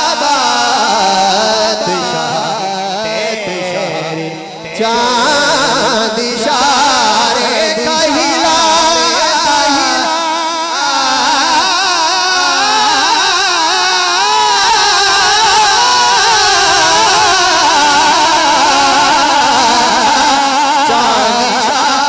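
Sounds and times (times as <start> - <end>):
man singing through loudspeakers: 0.0 - 22.0.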